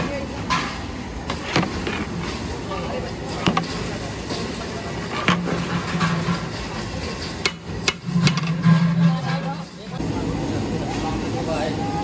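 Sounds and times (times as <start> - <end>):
metal paddle clanking against pot: 0.0 - 10.0.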